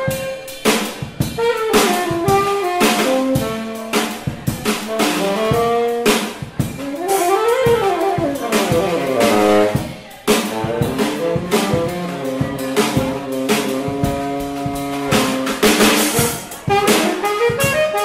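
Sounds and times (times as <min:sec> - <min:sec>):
drum kit snare and rimshots: 0:00.0 - 0:18.0
saxophone lead line: 0:00.0 - 0:18.0.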